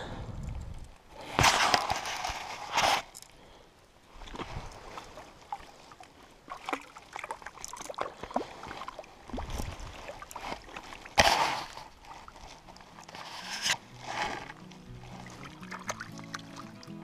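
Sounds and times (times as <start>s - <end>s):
water splashing and sloshing: 0.4s - 17.0s.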